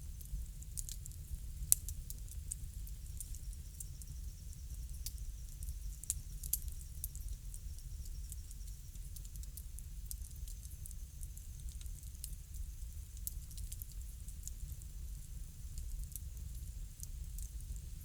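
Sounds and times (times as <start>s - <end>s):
low rumble of fire: 0.0s - 18.0s
fire popping: 0.2s - 4.0s, 4.6s - 18.0s.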